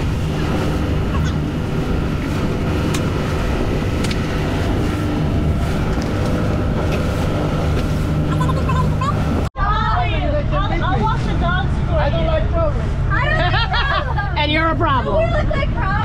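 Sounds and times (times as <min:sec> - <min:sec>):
motorboat engine running: 0:00.0 - 0:16.0
wind and water rushing: 0:00.0 - 0:16.0.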